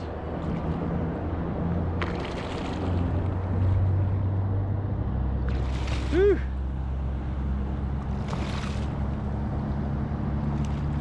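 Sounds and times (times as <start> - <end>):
water noise around kayak: 0.0 - 11.0.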